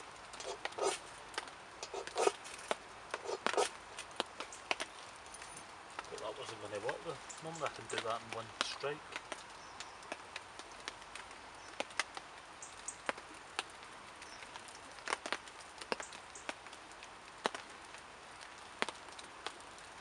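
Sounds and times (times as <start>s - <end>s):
campfire crackling and snapping: 0.0s - 20.0s.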